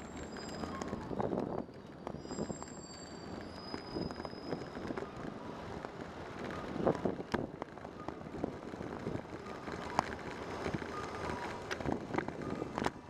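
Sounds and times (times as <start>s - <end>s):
bicycle tyre and road noise: 0.0s - 13.0s.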